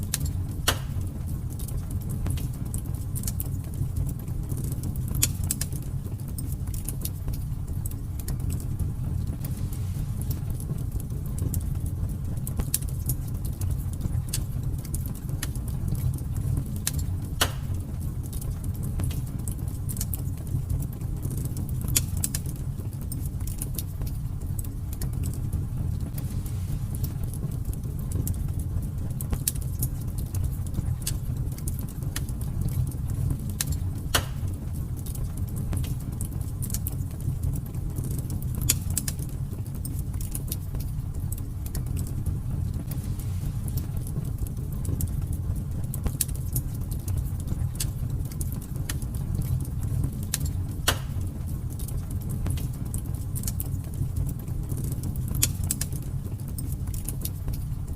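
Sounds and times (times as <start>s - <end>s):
low fire rumble: 0.0s - 57.9s
wood fire crackling and popping: 0.0s - 57.9s.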